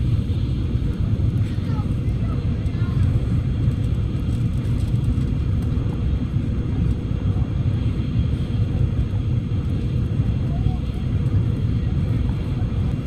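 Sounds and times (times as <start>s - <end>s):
train rumbling inside cabin: 0.0s - 13.0s.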